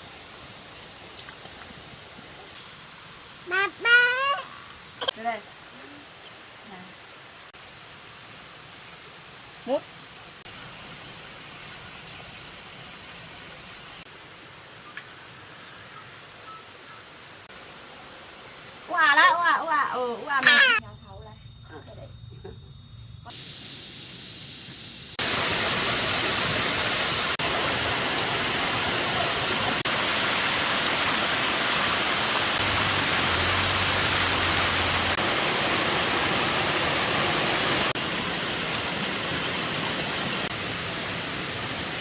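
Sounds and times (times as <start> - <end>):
rushing water hiss: 0.0 - 20.8, 23.3 - 42.0.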